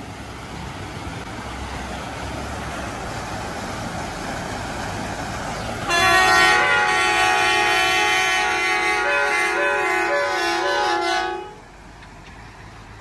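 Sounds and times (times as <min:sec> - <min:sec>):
river rapids rushing: 0:00.0 - 0:12.0
truck driving on gravel: 0:00.0 - 0:13.0.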